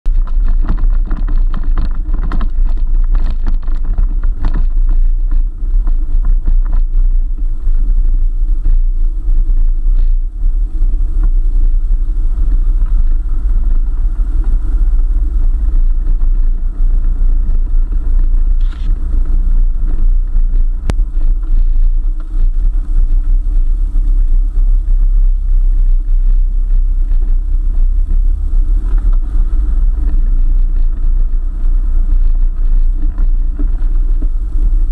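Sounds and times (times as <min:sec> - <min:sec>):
off-road vehicle engine rumbling: 0:00.0 - 0:34.9.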